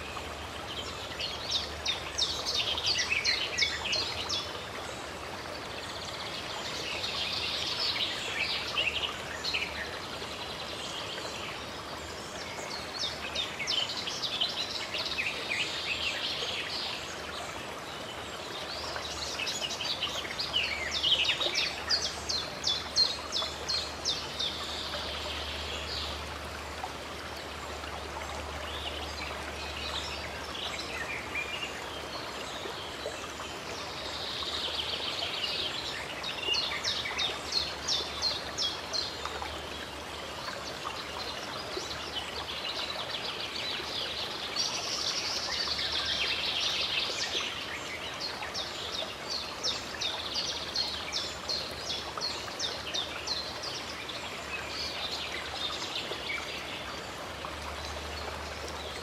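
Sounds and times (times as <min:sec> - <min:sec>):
stream of running water: 0:00.0 - 0:59.0.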